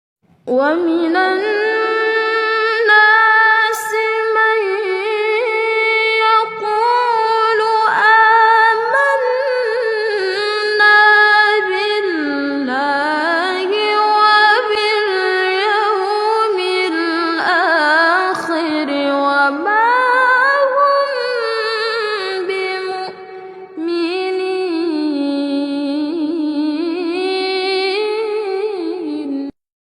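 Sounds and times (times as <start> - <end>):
person reciting melodically: 0.5 - 29.6.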